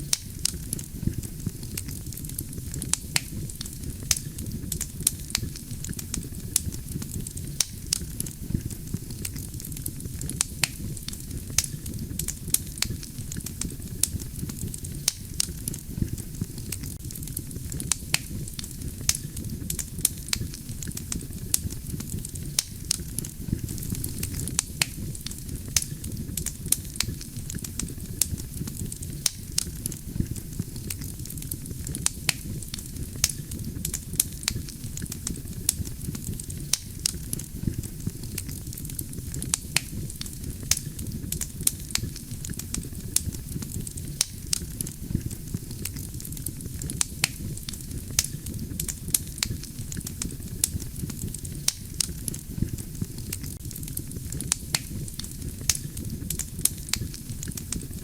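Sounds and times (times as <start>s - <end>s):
burning logs crackling and popping: 0.0s - 58.0s
campfire flames rumbling: 0.0s - 58.0s.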